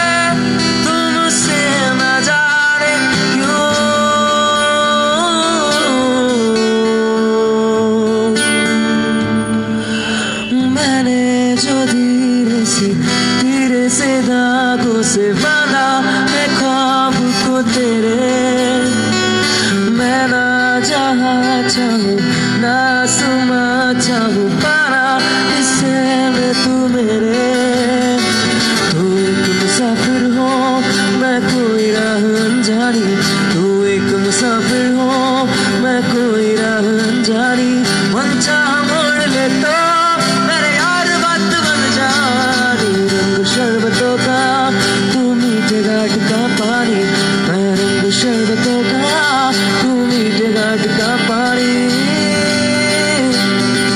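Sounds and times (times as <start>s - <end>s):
man singing into microphone: 0.0s - 53.9s
strummed acoustic guitar: 0.0s - 53.9s.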